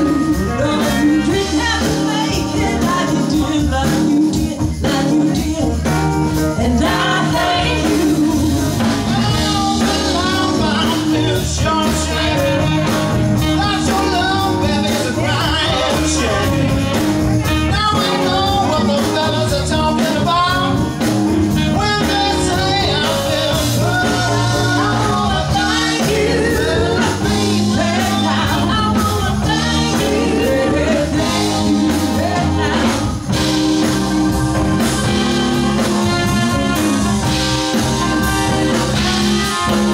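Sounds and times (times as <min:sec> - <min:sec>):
woman singing lead vocal: 0:00.0 - 0:20.8, 0:21.5 - 0:39.9
bass guitar: 0:00.0 - 0:39.9
drums: 0:00.0 - 0:39.9
electric guitar: 0:00.0 - 0:39.9.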